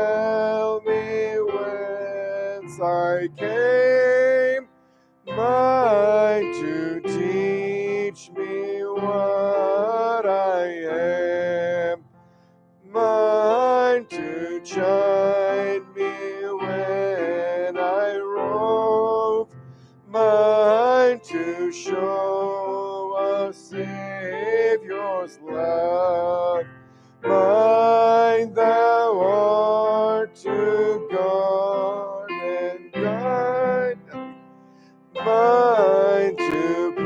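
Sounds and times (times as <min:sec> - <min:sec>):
congregation singing: 0:00.0 - 0:04.6, 0:05.3 - 0:12.0, 0:12.9 - 0:19.4, 0:20.1 - 0:26.6, 0:27.3 - 0:34.2, 0:35.2 - 0:37.0
man leading hymn singing: 0:00.0 - 0:04.7, 0:05.3 - 0:12.0, 0:12.9 - 0:34.3, 0:35.2 - 0:37.0
piano accompaniment: 0:00.0 - 0:37.0.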